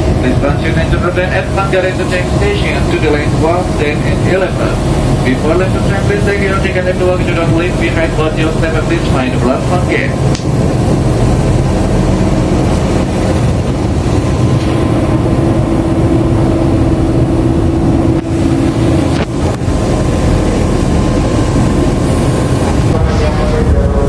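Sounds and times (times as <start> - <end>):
low whine: 0.0 - 24.0
train rumbling on rails: 0.0 - 24.0.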